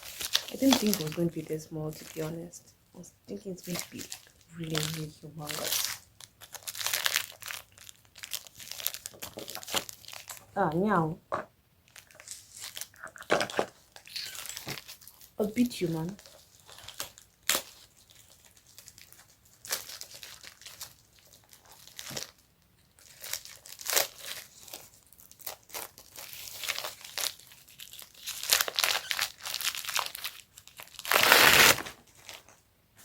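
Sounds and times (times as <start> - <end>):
packaging crinkling and rustling: 0.0 - 2.5, 3.4 - 10.6, 11.8 - 33.0.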